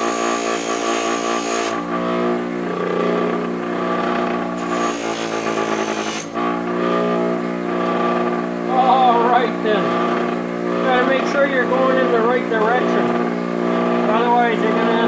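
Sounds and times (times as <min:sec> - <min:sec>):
bench grinder motor humming: 0:00.0 - 0:15.0.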